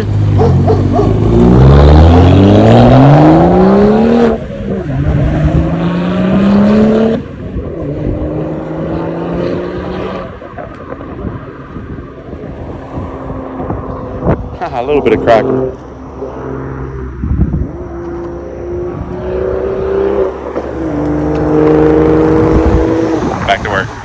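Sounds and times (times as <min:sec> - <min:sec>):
car exhaust accelerating hard: 0:00.0 - 0:24.0.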